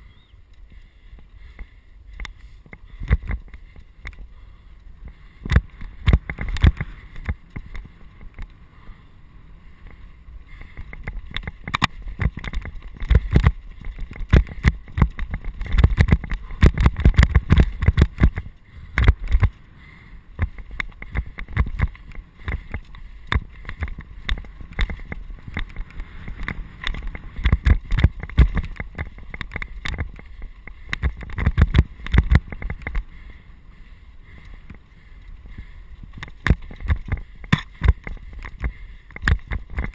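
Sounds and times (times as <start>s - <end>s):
mountain bike rattling over rocks: 2.4s - 4.3s, 5.0s - 8.6s, 10.6s - 19.6s, 20.3s - 33.2s, 34.4s - 39.9s.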